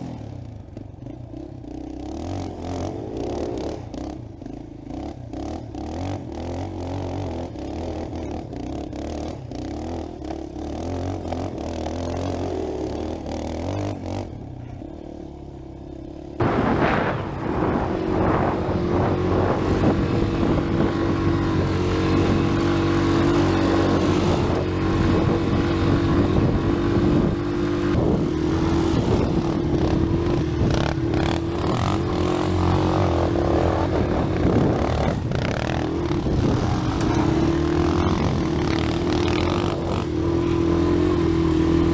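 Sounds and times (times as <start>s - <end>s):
atv engine running: 0.0s - 41.9s.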